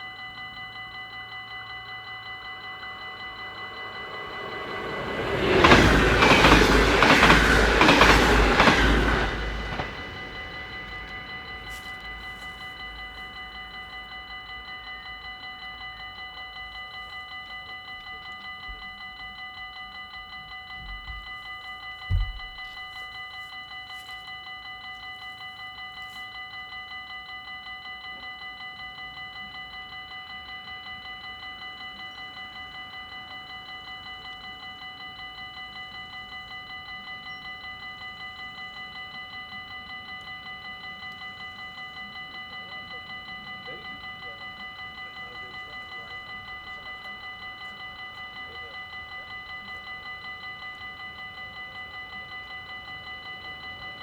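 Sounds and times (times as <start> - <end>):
level-crossing warning bell ringing: 0.0 - 54.0.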